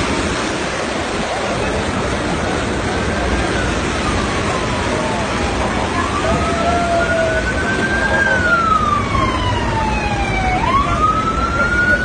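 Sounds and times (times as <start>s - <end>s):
loud steady rushing noise: 0.0s - 12.0s
emergency siren wailing: 1.3s - 12.0s.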